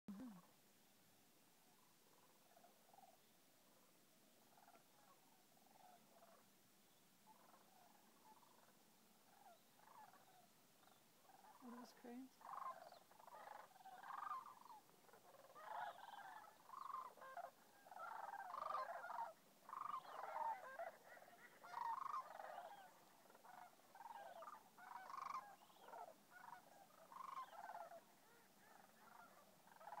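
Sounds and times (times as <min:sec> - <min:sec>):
flock of cranes calling: 0:04.4 - 0:06.5, 0:07.2 - 0:30.0.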